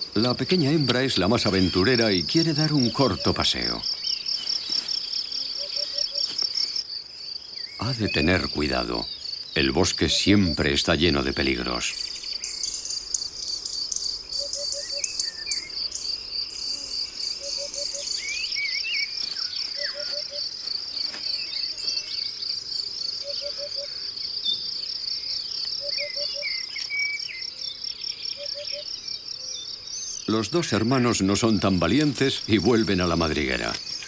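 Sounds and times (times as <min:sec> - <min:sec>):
birds singing: 0:00.0 - 0:34.0
crickets chirping: 0:00.0 - 0:34.0.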